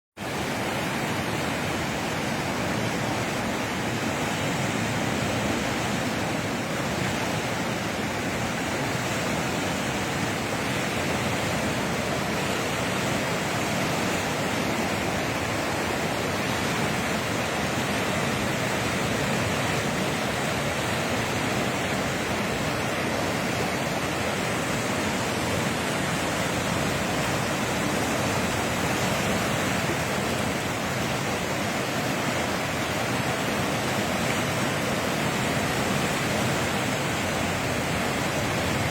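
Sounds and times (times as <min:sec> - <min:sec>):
heavy rain: 0:00.2 - 0:38.9
running water: 0:00.2 - 0:38.9.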